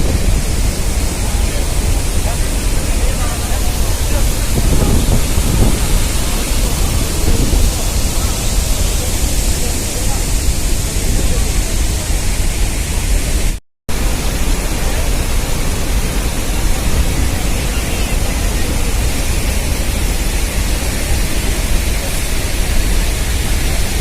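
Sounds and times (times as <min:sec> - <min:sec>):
loud waterfall roar: 0:00.0 - 0:24.0.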